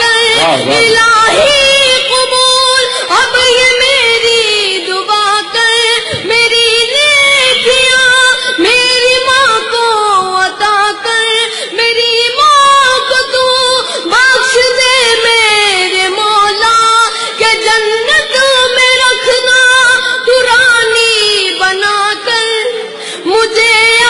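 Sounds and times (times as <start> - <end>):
boy singing in high voice: 0.0 - 24.0.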